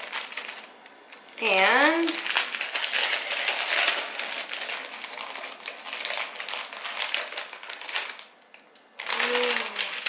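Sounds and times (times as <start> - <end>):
paper packaging tearing and crinkling: 0.0 - 0.7, 1.4 - 8.3, 9.0 - 10.0.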